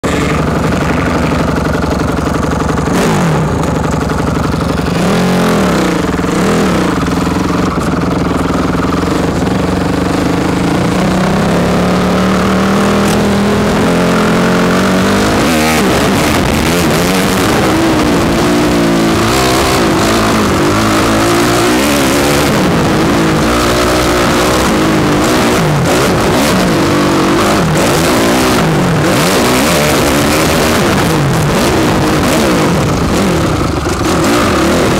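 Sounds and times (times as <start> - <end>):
motocross bike engine revving: 0.0 - 34.9
wind noise: 4.8 - 34.9.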